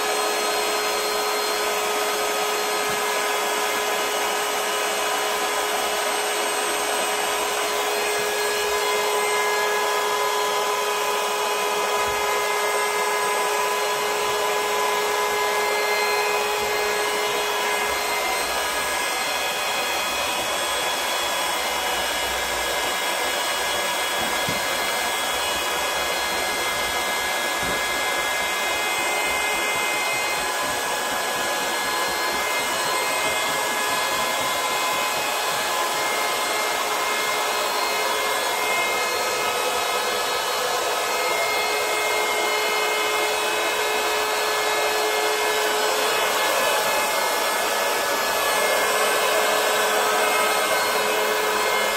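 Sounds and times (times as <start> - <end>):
electric air pump whirring: 0.0 - 51.9.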